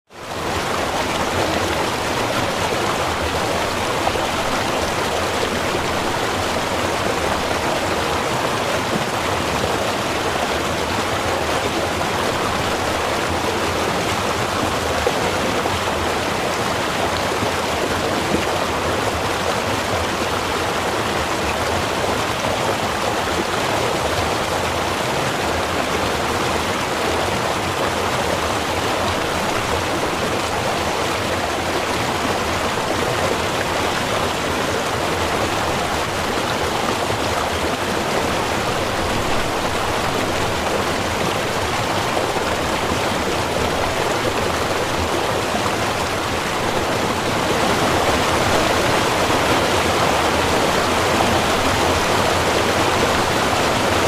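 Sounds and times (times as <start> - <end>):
river water rushing: 0.1 - 54.0.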